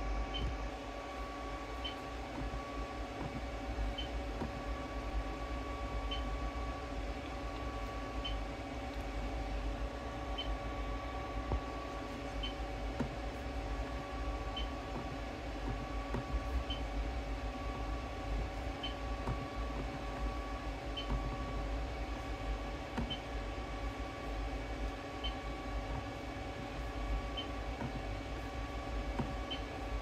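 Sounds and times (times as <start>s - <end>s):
electrical equipment hum: 0.0s - 30.0s.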